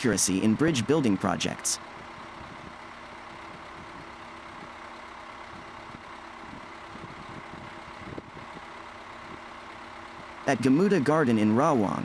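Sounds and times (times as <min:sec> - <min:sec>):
heavy machinery engine humming: 0:00.0 - 0:12.0.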